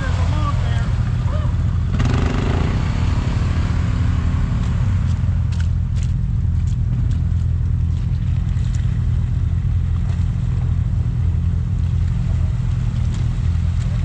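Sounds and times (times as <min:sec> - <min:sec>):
vehicle engine running at low revs: 0:00.0 - 0:14.0.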